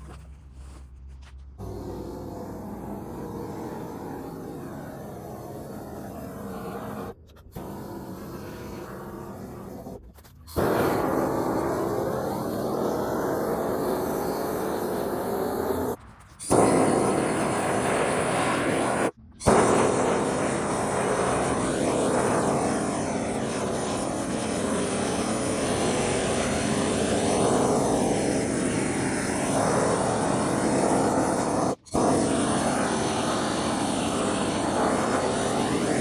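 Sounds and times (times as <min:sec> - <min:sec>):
propane torch rushing: 0:01.6 - 0:10.0, 0:10.6 - 0:36.0.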